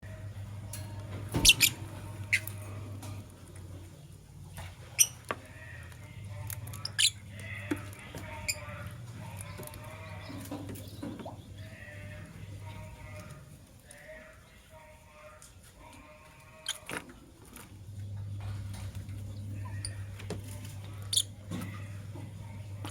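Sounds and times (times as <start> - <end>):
birds chirping and squeaking: 0.0 - 14.9, 16.6 - 17.0, 18.1 - 22.9.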